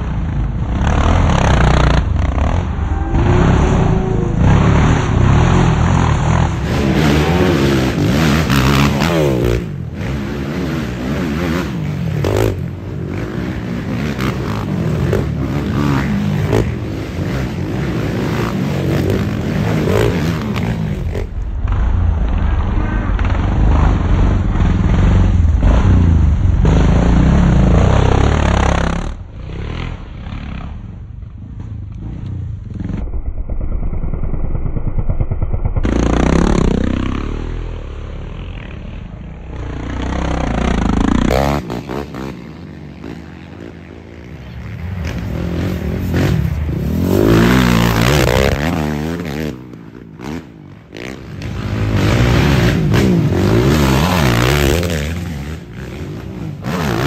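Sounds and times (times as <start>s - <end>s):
quad engines revving: 0.0s - 21.8s, 23.0s - 33.1s, 35.7s - 57.0s.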